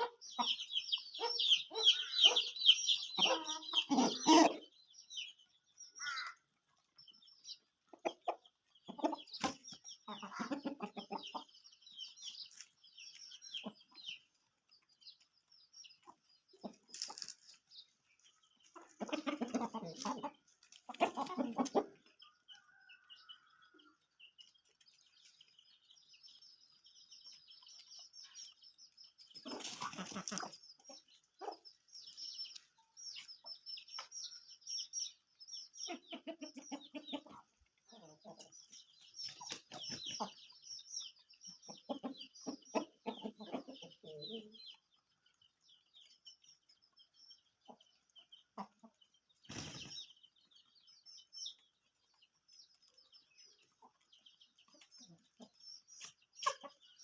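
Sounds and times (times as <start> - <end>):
chickens clucking: 0.0 - 57.0
chicks peeping: 0.0 - 57.0.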